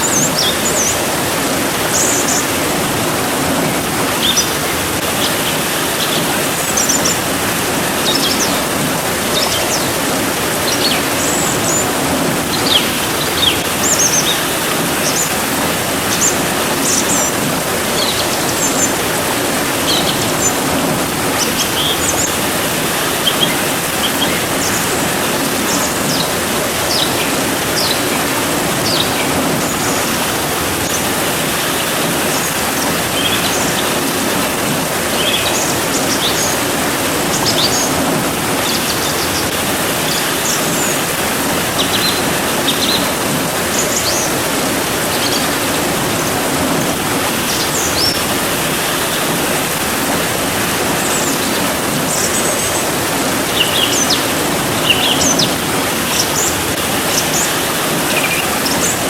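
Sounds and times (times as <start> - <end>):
small birds chirping: 0.0 - 59.0
steady rain hiss: 0.0 - 59.0.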